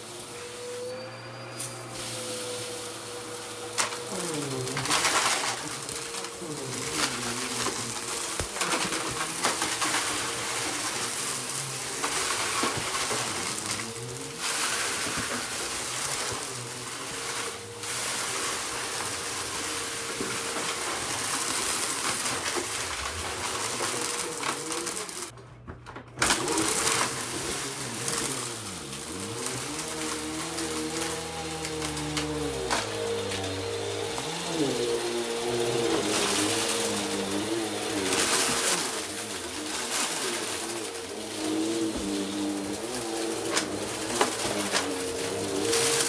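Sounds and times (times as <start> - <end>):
debris crunching in vacuum: 0.0 - 25.4, 26.2 - 46.0
vacuum cleaner motor whine: 0.0 - 25.4, 26.2 - 46.0.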